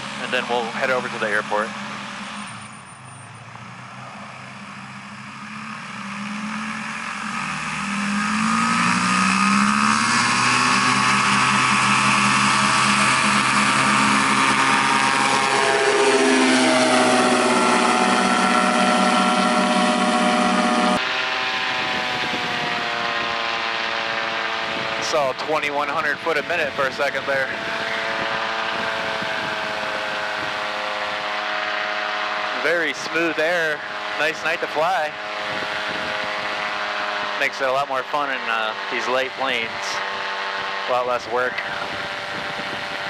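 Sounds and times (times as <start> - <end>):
aircraft engine and propeller: 0.0 - 43.0.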